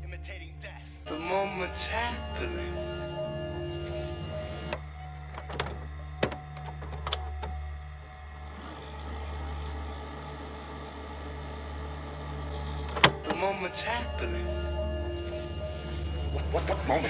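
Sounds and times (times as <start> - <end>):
tape deck motor whirring: 1.1 - 17.0.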